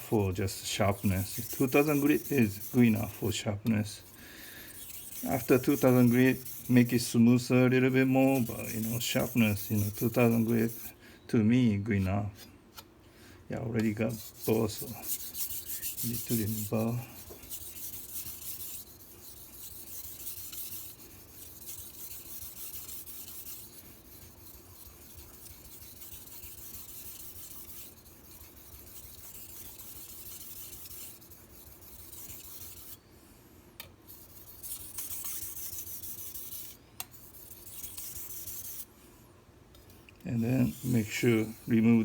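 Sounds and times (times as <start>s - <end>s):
knife scraping on whetstone: 0.0s - 3.4s, 4.0s - 10.9s, 13.8s - 33.0s, 34.1s - 38.9s, 40.4s - 42.0s.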